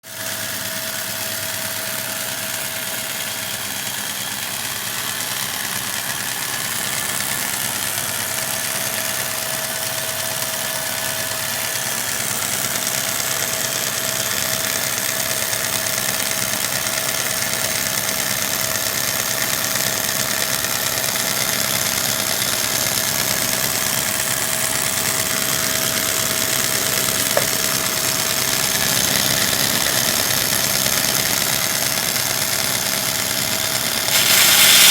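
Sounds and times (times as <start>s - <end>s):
belt grinder whining: 0.2s - 34.9s.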